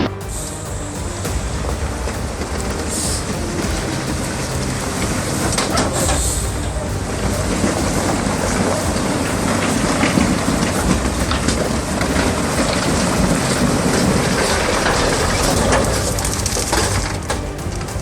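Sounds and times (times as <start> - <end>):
truck engine rumble: 0.0 - 18.0
truck rattling and crackling: 0.0 - 18.0.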